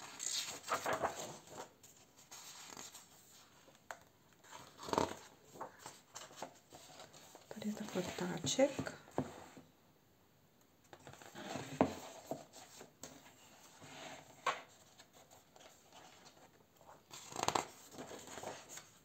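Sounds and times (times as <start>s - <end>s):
paper pages rustling: 0.0s - 8.8s, 10.9s - 19.0s.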